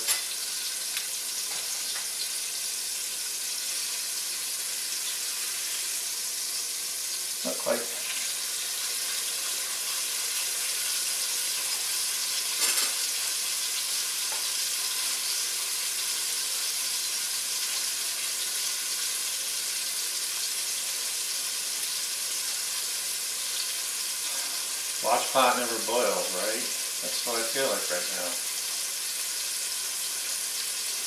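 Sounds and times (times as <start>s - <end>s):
chicken sizzling in a pan: 0.0s - 31.0s.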